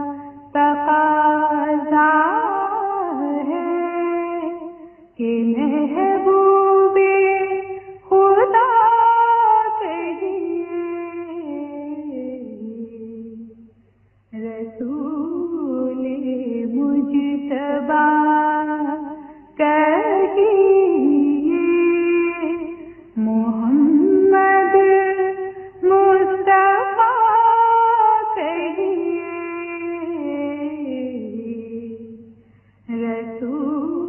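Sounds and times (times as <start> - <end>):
faint low hum: 0.0 - 34.0
woman singing devotional song: 0.0 - 34.0.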